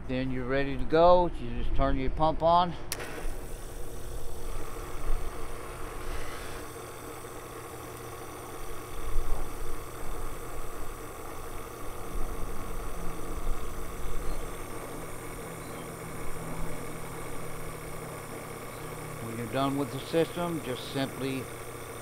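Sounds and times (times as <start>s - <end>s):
misting pump humming: 0.0s - 22.0s
pump hiss: 2.9s - 22.0s.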